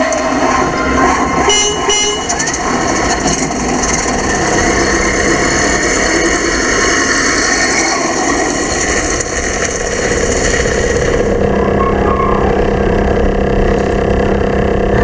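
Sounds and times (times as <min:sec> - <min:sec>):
traffic with engines running: 0:00.0 - 0:15.0.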